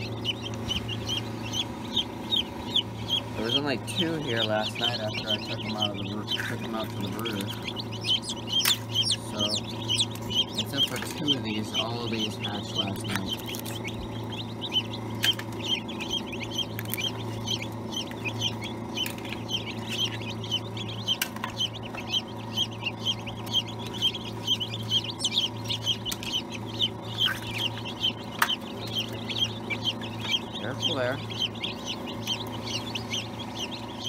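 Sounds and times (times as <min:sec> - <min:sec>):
chicks peeping: 0:00.0 - 0:34.0
steady low hum: 0:00.0 - 0:34.0.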